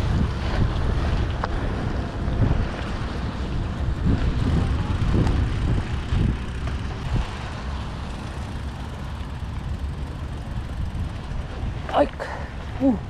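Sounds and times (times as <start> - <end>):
bike jolting and rattling: 0.0 - 12.4
wind rumbling on microphone: 0.0 - 13.0.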